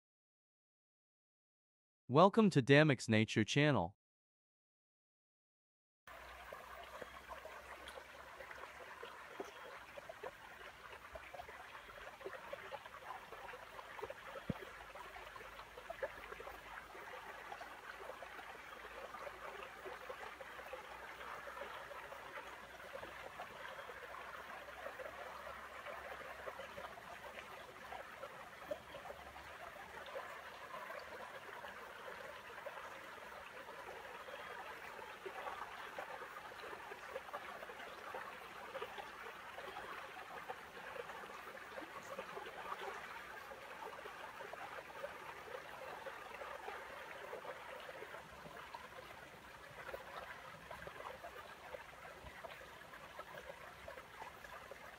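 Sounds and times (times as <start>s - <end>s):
stream trickling and babbling: 6.1s - 54.9s.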